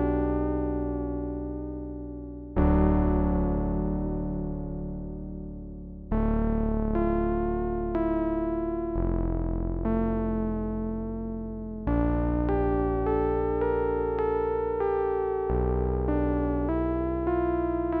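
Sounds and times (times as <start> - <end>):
low synth bass: 0.0 - 18.0.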